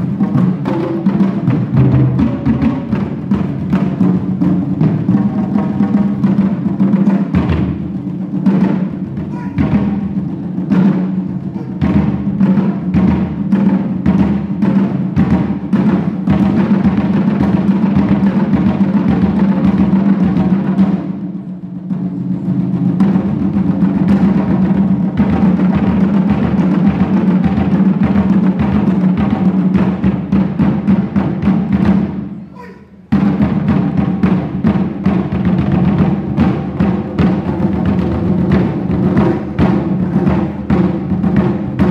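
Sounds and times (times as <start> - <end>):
drum ensemble playing barrel drums: 0.0 - 41.9.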